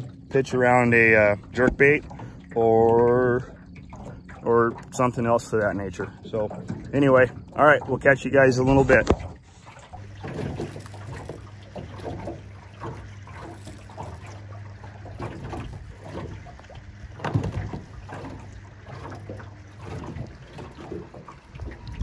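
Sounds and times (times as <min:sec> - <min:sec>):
steady low hum: 0:00.0 - 0:22.0
water lapping against boat hull: 0:00.0 - 0:22.0.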